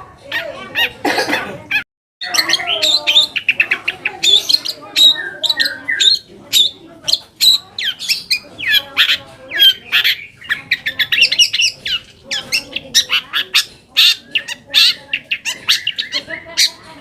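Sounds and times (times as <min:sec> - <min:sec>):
bird singing harsh chattering song: 0:00.0 - 0:17.0.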